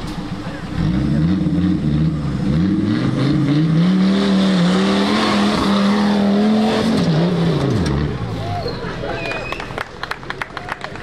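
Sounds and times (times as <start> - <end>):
off-road vehicle engine revving: 0.0 - 9.7.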